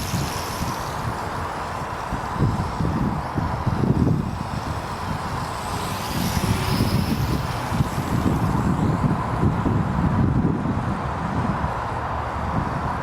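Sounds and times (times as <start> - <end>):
quadcopter motor whine: 0.0 - 11.4
wind buffeting microphone: 0.0 - 13.0.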